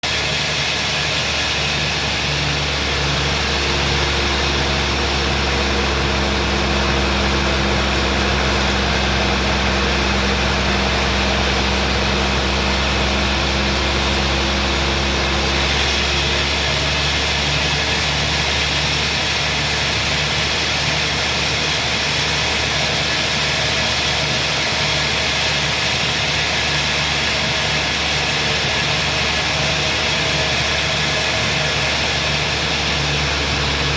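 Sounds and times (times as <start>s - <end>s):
sawmill machinery running: 0.0s - 33.9s.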